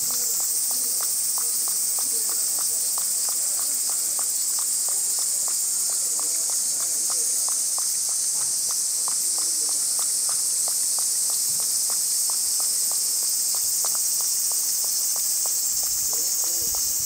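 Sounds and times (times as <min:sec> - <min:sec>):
steady high-pitched hiss: 0:00.0 - 0:17.0
cat lapping water: 0:00.1 - 0:17.0.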